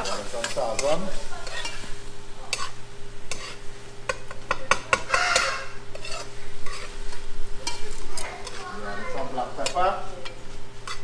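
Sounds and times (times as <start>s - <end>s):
spoon scraping a pot: 0.0s - 1.9s, 2.5s - 8.6s, 9.6s - 11.0s
food sizzling in oil: 0.0s - 11.0s.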